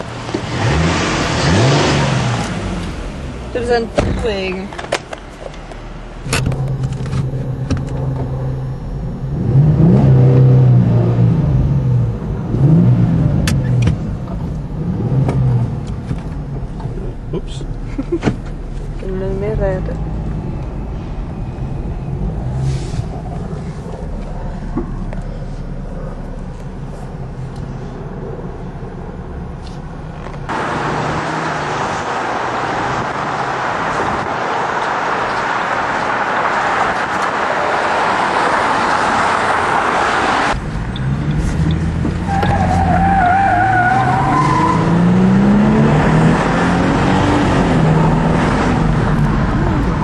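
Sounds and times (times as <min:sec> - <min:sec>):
car engine hum: 0:00.0 - 0:50.0
road and wind noise: 0:00.0 - 0:50.0.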